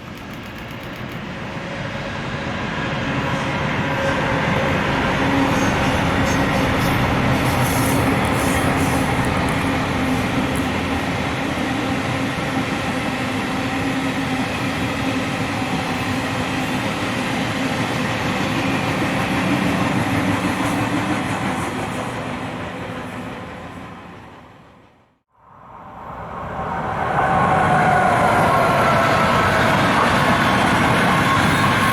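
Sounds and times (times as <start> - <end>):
train wheels rumbling on track: 0.0 - 25.2, 26.0 - 31.9
train hum: 0.0 - 31.9.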